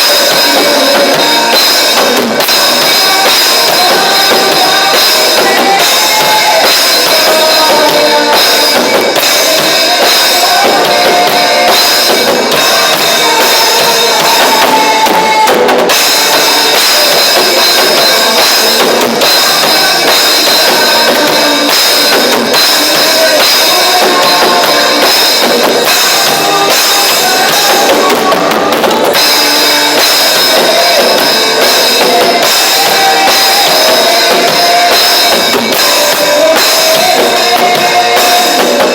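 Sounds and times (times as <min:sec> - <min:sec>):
drum kit steady beat: 0:00.0 - 0:38.9
worship band playing loud music: 0:00.0 - 0:38.9.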